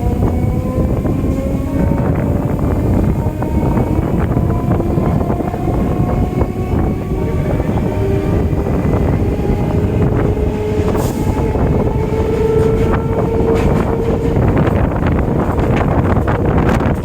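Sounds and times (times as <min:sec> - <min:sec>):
rising whine: 0:00.0 - 0:16.9
train wheels rumbling on track: 0:00.0 - 0:17.0.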